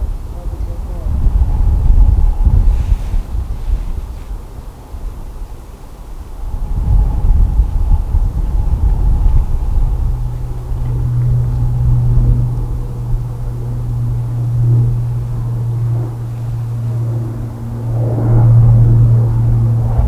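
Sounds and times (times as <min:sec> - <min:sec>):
jet airliner rumble landing: 0:00.0 - 0:20.0.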